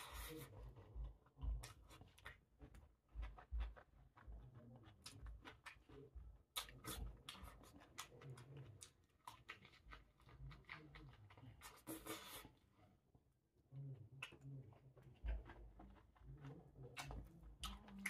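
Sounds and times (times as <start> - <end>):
person chewing: 0.0 - 12.7, 14.1 - 18.0
soft clicks and smacks of eating: 0.4 - 18.0.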